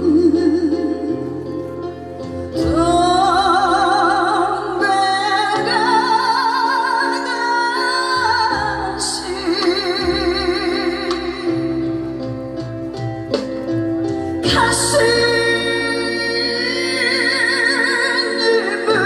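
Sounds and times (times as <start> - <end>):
woman singing with vibrato: 0.0 - 1.5, 2.6 - 12.1, 14.4 - 19.0
musical accompaniment: 0.0 - 19.0.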